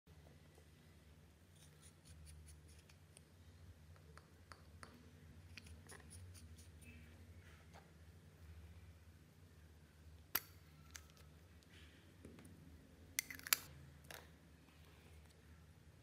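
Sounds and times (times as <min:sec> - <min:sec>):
low steady hum: 0:00.1 - 0:16.0.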